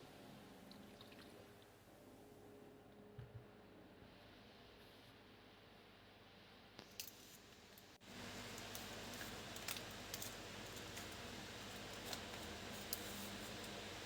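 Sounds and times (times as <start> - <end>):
low hiss and hum: 0.0 - 14.0.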